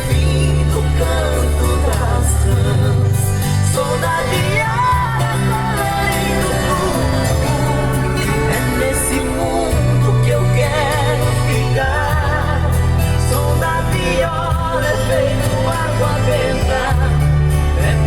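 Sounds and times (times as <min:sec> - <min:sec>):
steady bass line: 0:00.0 - 0:18.0
wavering melodic lead: 0:00.0 - 0:18.0.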